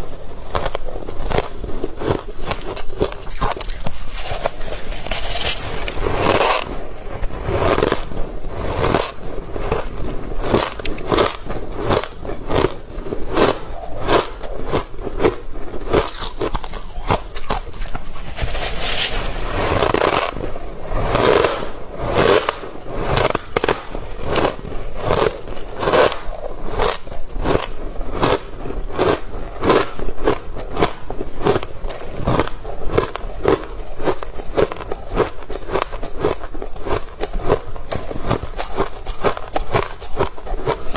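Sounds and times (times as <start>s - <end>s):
frost being chewed crunching: 0.5s - 8.0s, 8.7s - 21.6s, 22.2s - 40.9s.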